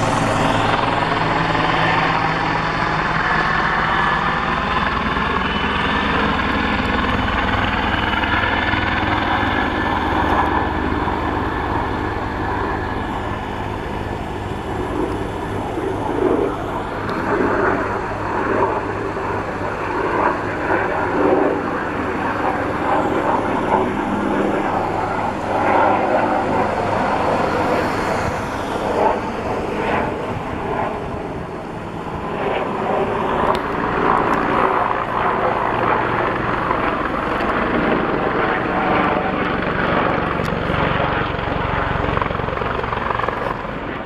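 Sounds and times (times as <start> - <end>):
helicopter flying overhead: 0.0 - 44.0.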